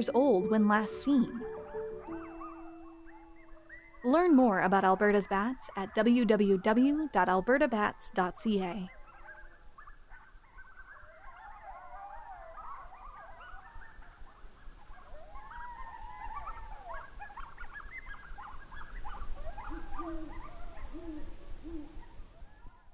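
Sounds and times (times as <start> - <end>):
owl hooting low: 1.1 - 7.6, 10.6 - 22.9
wild canines yipping and howling: 1.3 - 22.9.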